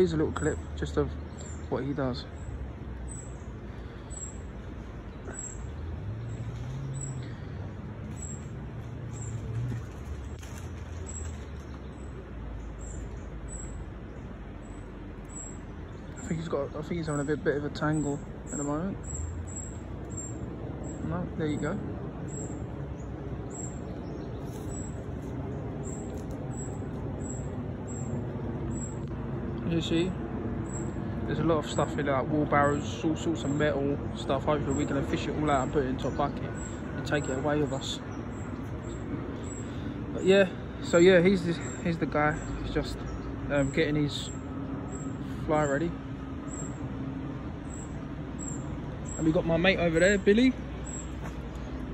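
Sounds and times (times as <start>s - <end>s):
distant traffic rumble: 0.0s - 51.9s
engine hum: 0.0s - 51.9s
small birds chirping: 0.0s - 51.9s.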